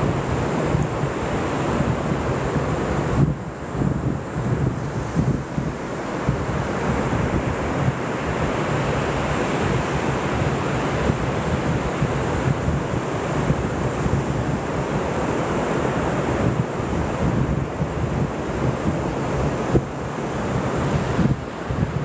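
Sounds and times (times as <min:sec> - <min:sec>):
ocean waves washing on shore: 0:00.0 - 0:22.0
wind noise on microphone: 0:00.0 - 0:22.0.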